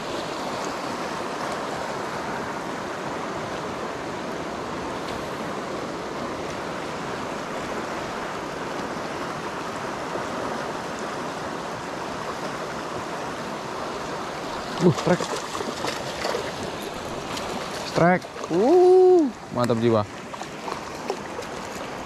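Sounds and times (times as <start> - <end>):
river rapids over rocks: 0.0 - 22.0.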